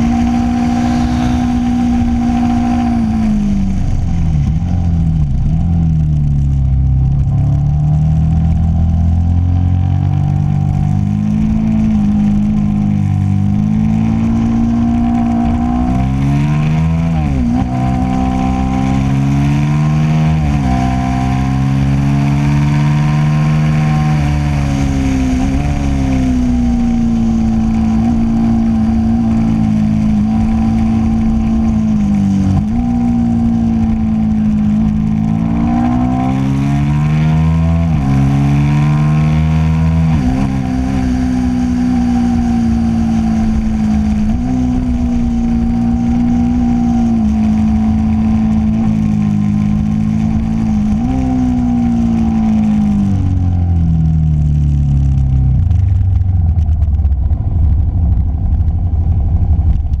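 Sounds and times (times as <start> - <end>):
wind rush: 0.0 - 7.4, 10.6 - 53.9, 55.3 - 60.0
motorcycle engine accelerating: 0.0 - 60.0.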